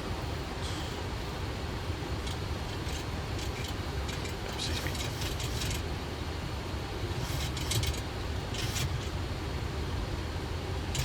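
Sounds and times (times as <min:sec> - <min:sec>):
airflow and engines rumbling: 0:00.0 - 0:11.0.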